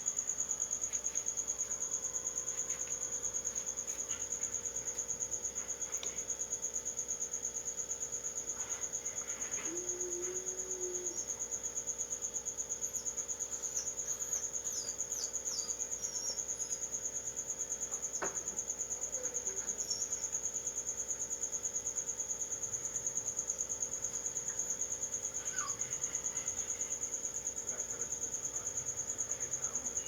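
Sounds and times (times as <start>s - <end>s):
cricket trilling: 0.0s - 30.0s.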